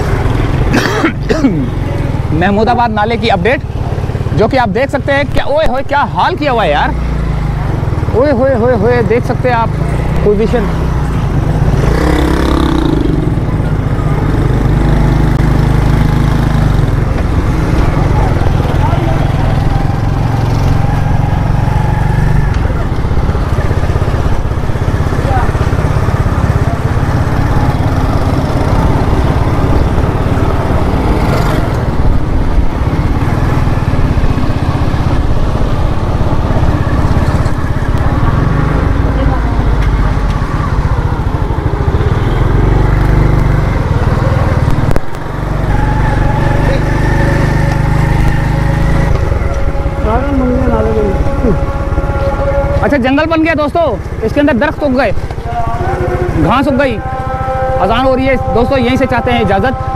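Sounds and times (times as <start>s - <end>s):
vehicle passing close by: 9.7s - 59.9s.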